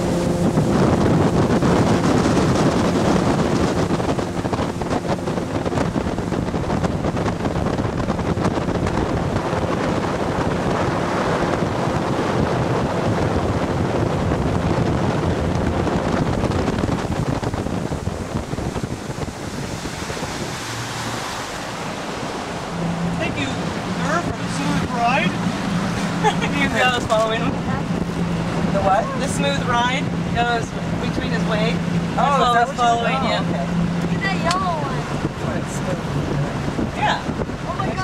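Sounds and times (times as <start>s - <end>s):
boat engine humming: 0.0s - 38.0s
water rushing past hull: 0.0s - 38.0s
wind buffeting microphone: 0.0s - 38.0s.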